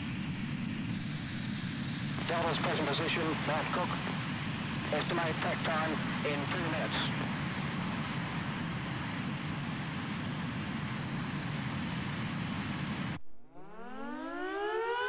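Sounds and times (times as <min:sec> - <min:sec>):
high steady jet whine: 0:00.0 - 0:15.0
jet cockpit rushing and rumble: 0:00.0 - 0:15.0.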